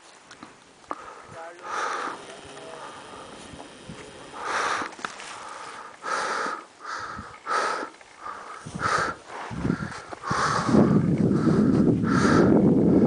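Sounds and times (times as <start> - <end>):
person breathing hard: 0.9 - 13.0.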